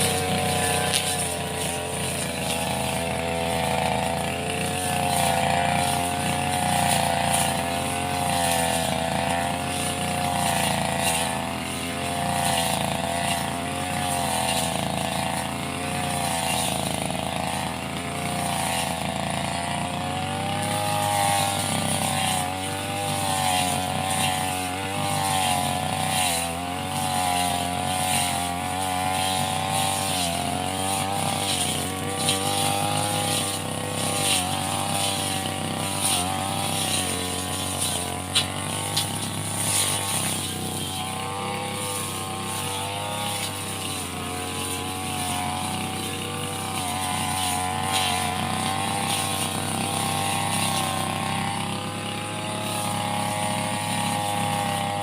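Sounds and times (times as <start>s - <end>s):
brush cutter engine running: 0.0s - 55.0s.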